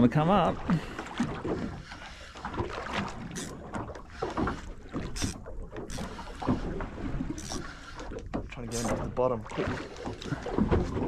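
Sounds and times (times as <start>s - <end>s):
short splashes: 0.0s - 11.0s
water slapping boat hull: 0.0s - 11.0s.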